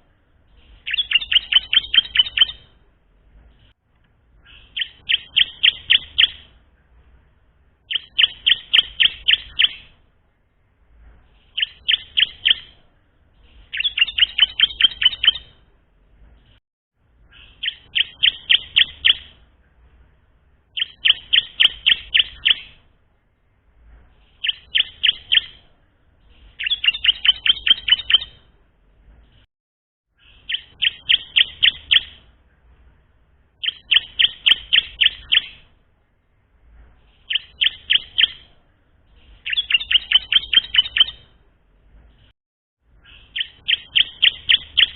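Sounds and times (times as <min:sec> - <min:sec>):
bird chirping song: 0:00.0 - 0:02.8, 0:03.4 - 0:10.1, 0:11.2 - 0:16.6, 0:17.2 - 0:22.9, 0:24.1 - 0:29.5, 0:30.2 - 0:35.8, 0:36.7 - 0:42.3, 0:42.9 - 0:44.9.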